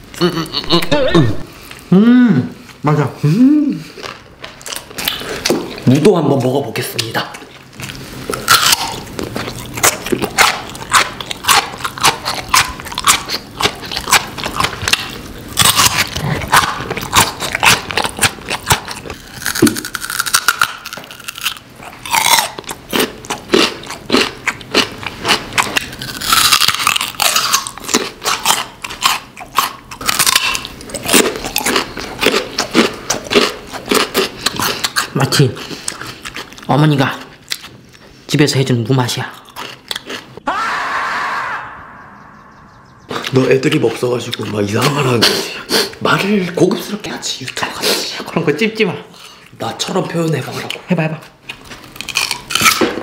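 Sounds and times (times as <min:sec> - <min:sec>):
crunching and chewing radish: 0:03.8 - 0:40.4, 0:43.1 - 0:53.0.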